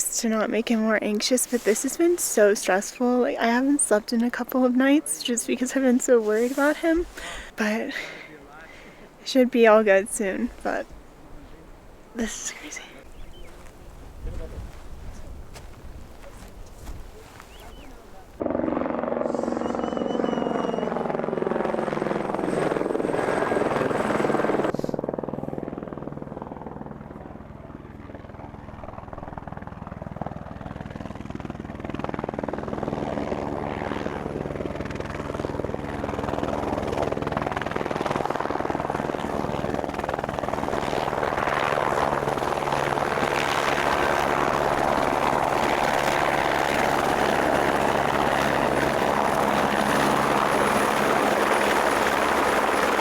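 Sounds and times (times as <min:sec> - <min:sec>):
helicopter rotor and engine: 0:00.0 - 0:53.0.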